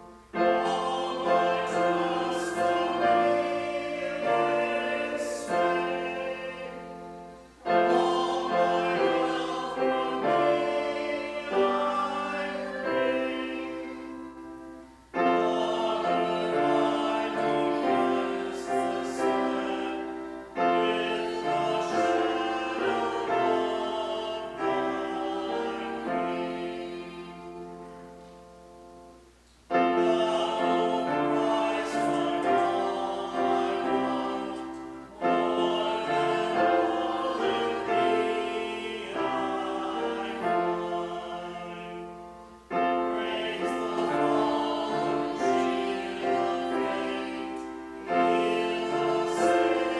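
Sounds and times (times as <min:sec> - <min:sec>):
voices singing along: 0:00.0 - 0:28.2, 0:29.7 - 0:49.9
piano chords: 0:00.0 - 0:49.9.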